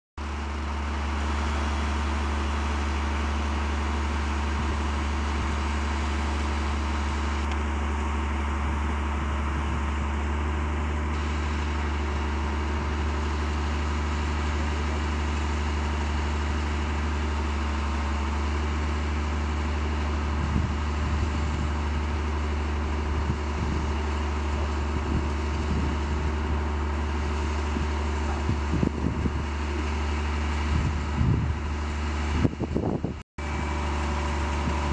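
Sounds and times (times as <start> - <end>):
vehicle engine idling: 0.2 - 34.9.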